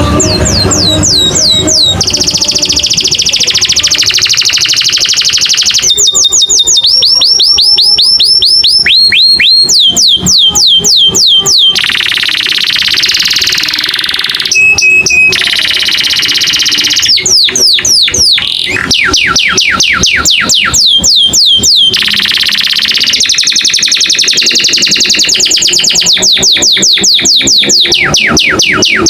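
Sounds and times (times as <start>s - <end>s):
canary singing trills and whistles: 0.0s - 29.0s.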